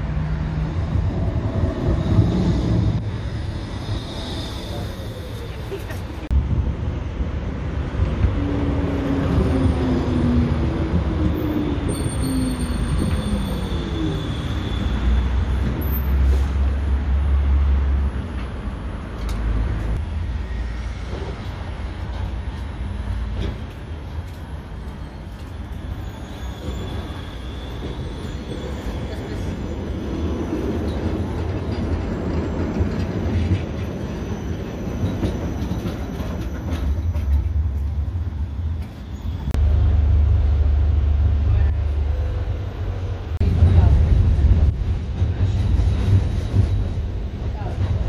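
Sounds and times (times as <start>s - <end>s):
tram wheels rumbling on rail: 0.0s - 48.0s.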